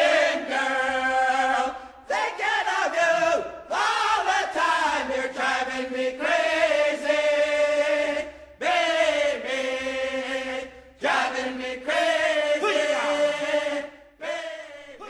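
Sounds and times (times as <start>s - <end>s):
group chanting: 0.0s - 15.0s.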